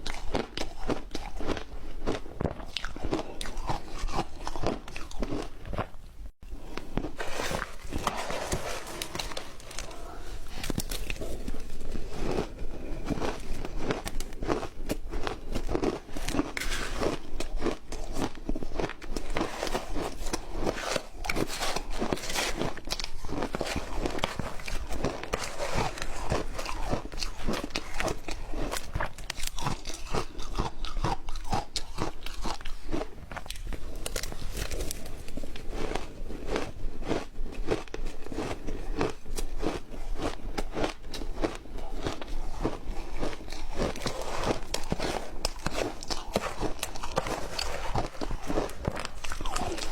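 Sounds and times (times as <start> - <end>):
crunching and chewing ice: 0.0 - 49.9.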